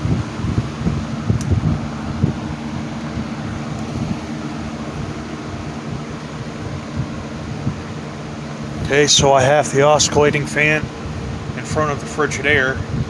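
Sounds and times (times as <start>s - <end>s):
rush of air: 0.0s - 11.6s
box fans running: 0.0s - 13.0s
low motor hum: 0.0s - 13.0s.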